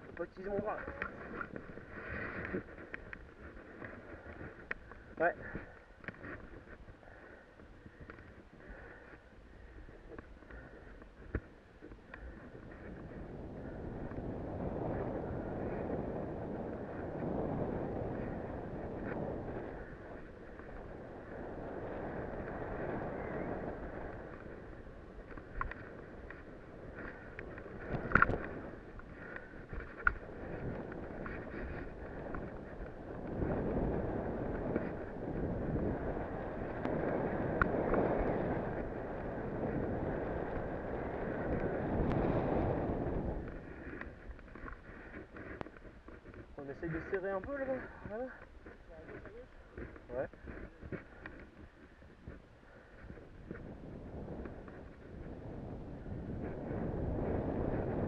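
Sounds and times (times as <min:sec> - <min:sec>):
wind on microphone: 0:00.0 - 0:58.0.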